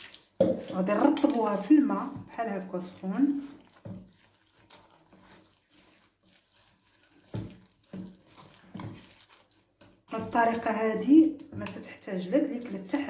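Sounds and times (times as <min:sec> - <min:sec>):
dough squelches: 0:00.0 - 0:13.0
hand squishing wet dough in bowl: 0:00.0 - 0:13.0.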